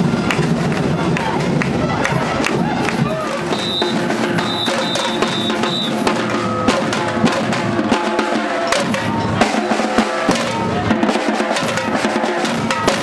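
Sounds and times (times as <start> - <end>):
percussion band drumming: 0.0 - 13.0.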